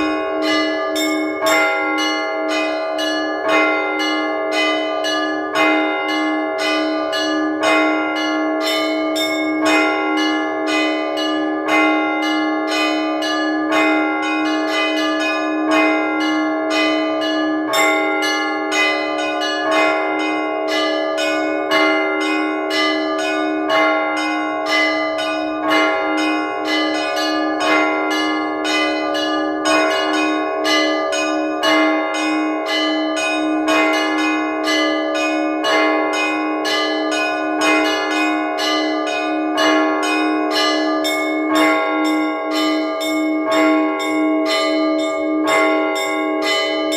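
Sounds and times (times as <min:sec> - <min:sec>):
low sustained bell tone: 0:00.0 - 0:46.9
small church bells striking: 0:00.0 - 0:46.9.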